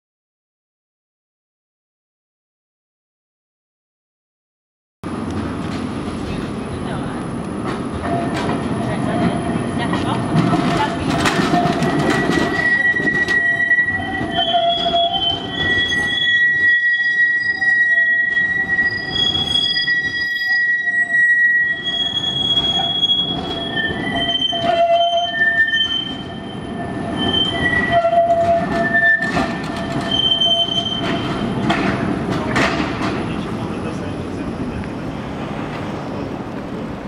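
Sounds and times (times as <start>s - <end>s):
rumble of wheels on rail: 5.0s - 37.0s
tram wheels squealing: 5.1s - 37.0s.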